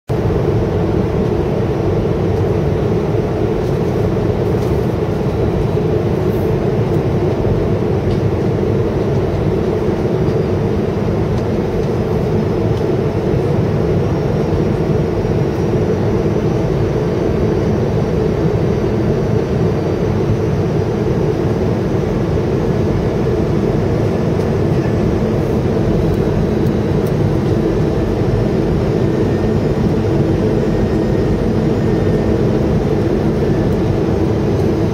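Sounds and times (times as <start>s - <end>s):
airplane cabin engine rumble: 0.1s - 34.9s.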